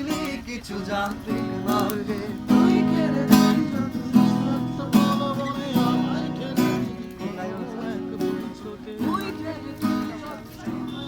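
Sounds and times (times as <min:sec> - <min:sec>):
acoustic guitar strumming: 0:00.0 - 0:11.0
people's voices: 0:00.0 - 0:11.0.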